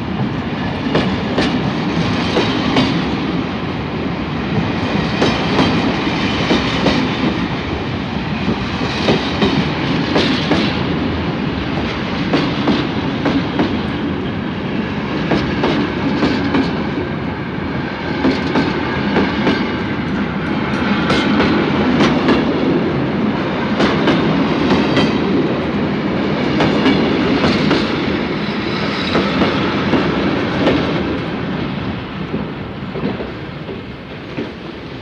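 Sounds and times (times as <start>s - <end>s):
steam train rolling on track: 0.0s - 35.0s.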